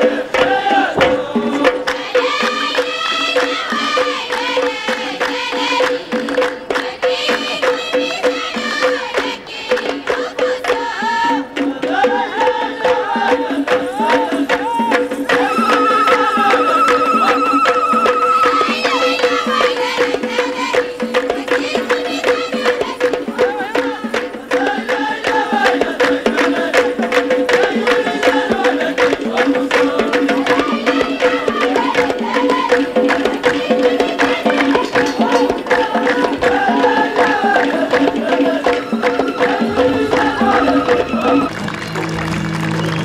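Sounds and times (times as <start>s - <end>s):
rapid hand-drum percussion: 0.0s - 43.0s.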